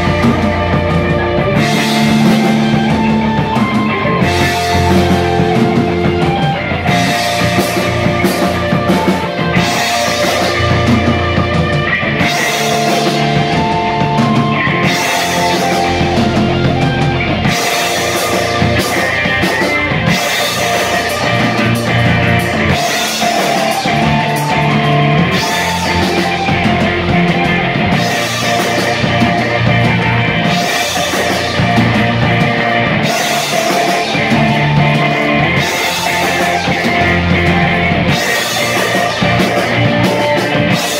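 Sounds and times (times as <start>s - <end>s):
drum kit: 0.0s - 40.9s
electric bass: 0.0s - 40.9s
electric guitar: 0.0s - 40.9s
keyboard: 0.0s - 40.9s.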